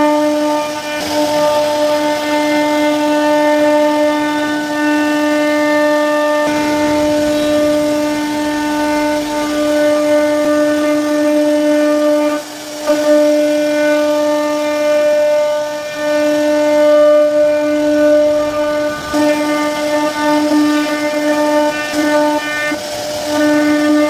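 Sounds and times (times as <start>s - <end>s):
wood router spindle whining: 0.0s - 24.0s.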